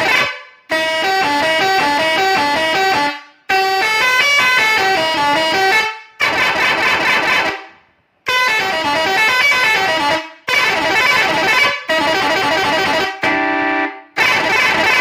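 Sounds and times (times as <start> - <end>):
musical truck horn: 0.0 - 15.0.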